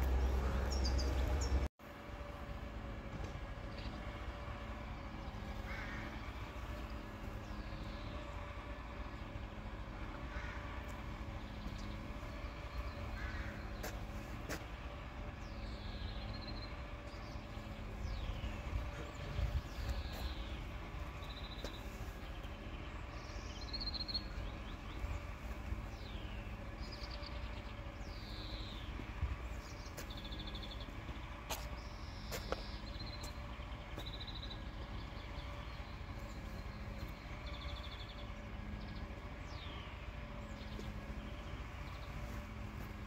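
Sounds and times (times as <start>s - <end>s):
birds singing and calling: 0.0s - 1.7s, 3.2s - 43.0s
low steady rumble: 0.0s - 43.0s.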